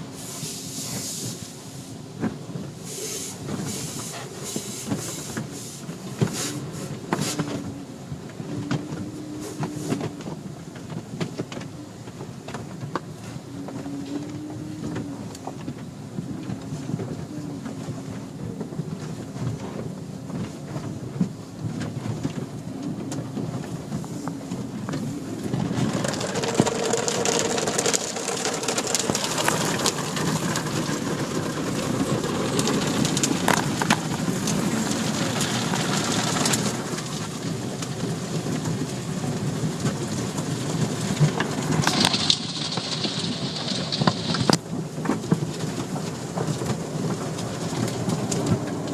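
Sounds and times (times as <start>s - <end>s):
car wash machine hum: 0.0s - 48.9s
water spraying on car body: 0.0s - 48.9s.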